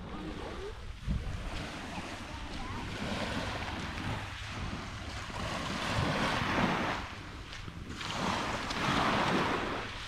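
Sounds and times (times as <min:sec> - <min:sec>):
small waves washing on beach: 0:00.0 - 0:10.0
wind rumbling on microphone: 0:00.0 - 0:10.0.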